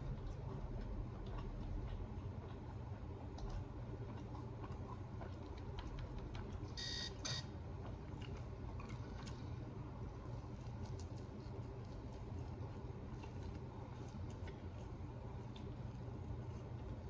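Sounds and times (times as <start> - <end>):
close-up chewing: 0.0 - 17.0
steady low hum: 0.0 - 17.0.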